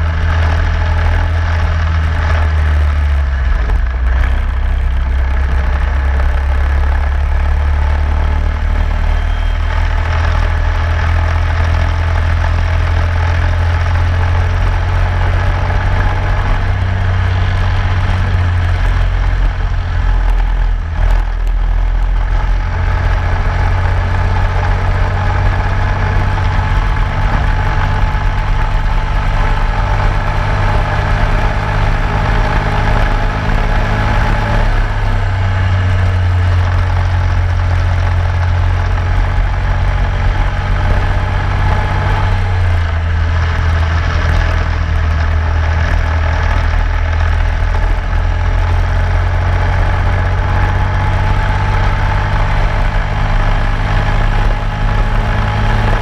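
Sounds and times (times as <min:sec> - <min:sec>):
racing kart engine drone: 0:00.0 - 0:56.0
wind and tyre rush: 0:00.0 - 0:56.0.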